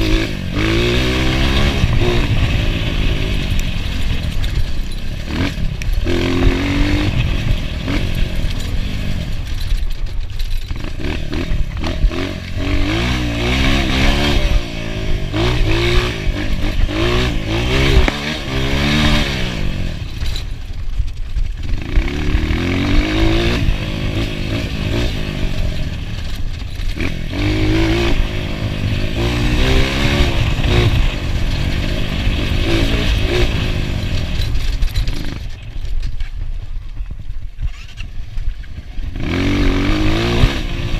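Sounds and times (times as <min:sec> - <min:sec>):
clattering over rough ground: 0:00.0 - 0:40.9
motorcycle engine revving: 0:00.0 - 0:40.9.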